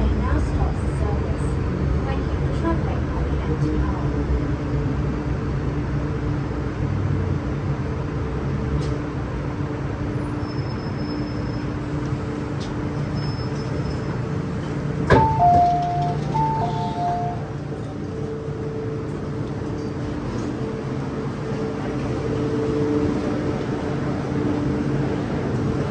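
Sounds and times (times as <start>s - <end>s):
train rumble and hum: 0.0s - 25.9s.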